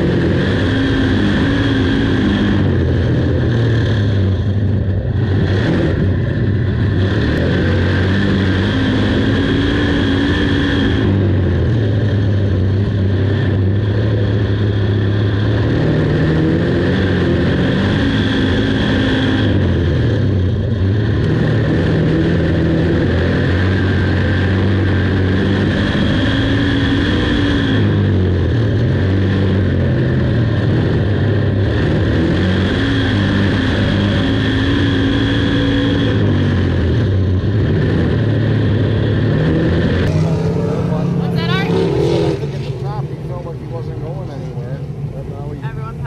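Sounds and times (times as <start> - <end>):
race car engine revving: 0.0 - 46.0.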